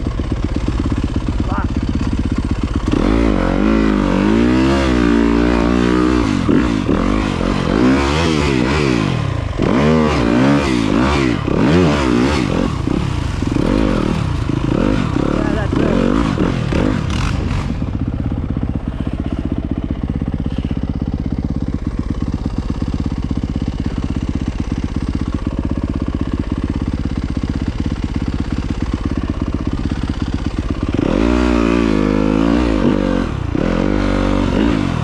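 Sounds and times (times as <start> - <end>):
motorcycle engine running and revving: 0.0 - 35.0.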